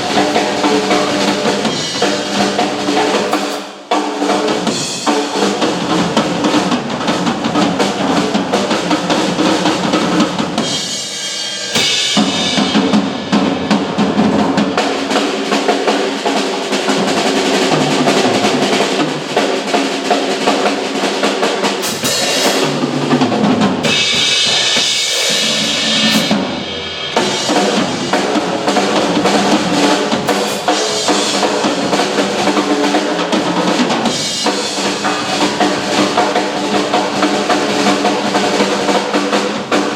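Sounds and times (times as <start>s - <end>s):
cymbals crashing: 0.0s - 39.9s
two drum kits playing: 0.0s - 39.9s.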